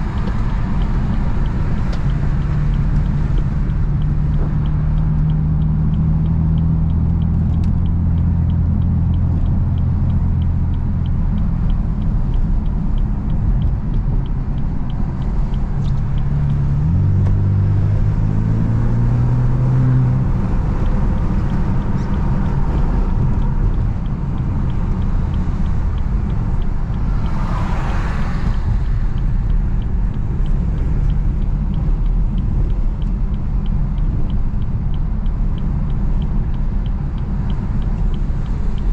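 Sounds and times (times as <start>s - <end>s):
car engine drone from cabin: 0.0s - 38.9s
tyre and road noise: 0.0s - 38.9s.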